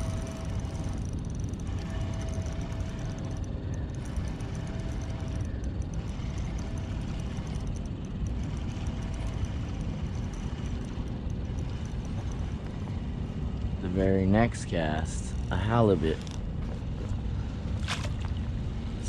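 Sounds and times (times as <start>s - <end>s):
faint high ticking: 0.0s - 17.4s
low rumbling: 0.0s - 19.0s.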